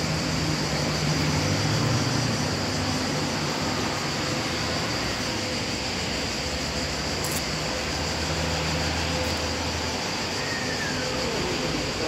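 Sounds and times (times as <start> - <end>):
passing vehicle engine hum: 0.0 - 12.0
street traffic noise: 0.0 - 12.0.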